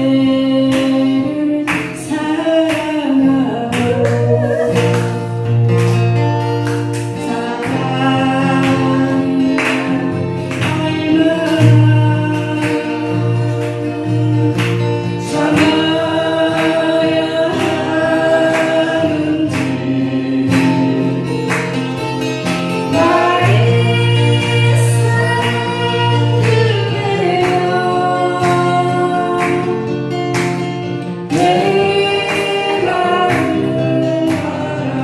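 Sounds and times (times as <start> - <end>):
group singing: 0.0 - 22.0, 22.6 - 35.0
strummed acoustic guitars: 0.0 - 35.0.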